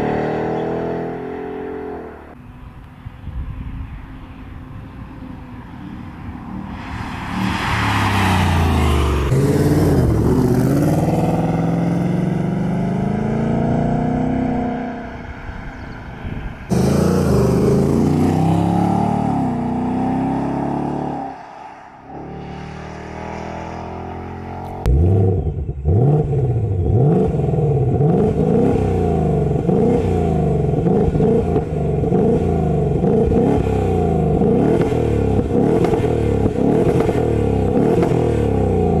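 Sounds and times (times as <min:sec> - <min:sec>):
car engine revving: 0:06.3 - 0:15.8, 0:16.6 - 0:39.0.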